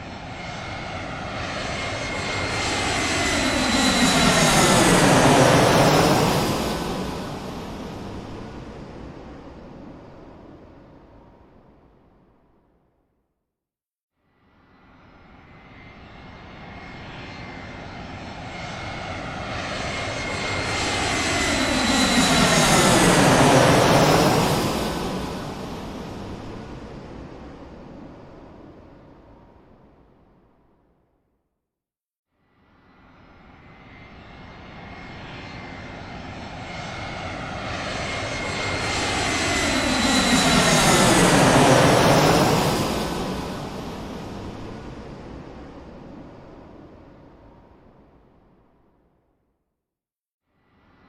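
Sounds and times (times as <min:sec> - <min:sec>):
airplane flying over: 0:00.0 - 0:11.9, 0:14.7 - 0:30.0, 0:32.8 - 0:48.2.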